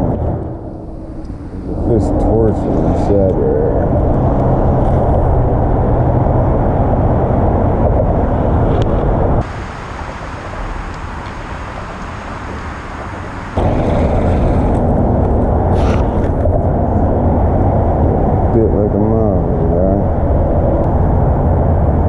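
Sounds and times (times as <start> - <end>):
engine running steadily: 0.0 - 22.0
rush of wind or water: 0.0 - 22.0.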